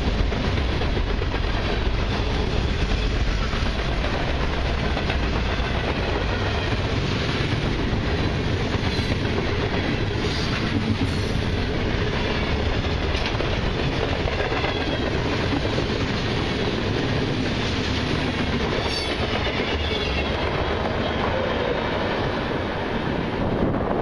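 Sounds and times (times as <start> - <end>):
wheels clacking over rail joints: 0.0 - 21.0
steel wheels rumbling on rail: 0.0 - 24.0.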